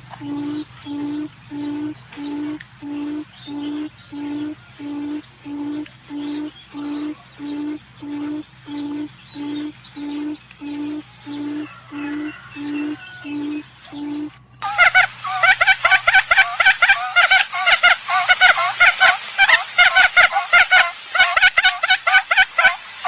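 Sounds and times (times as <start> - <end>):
birds chirping: 0.0 - 22.8
quail call low hooting: 0.0 - 23.0.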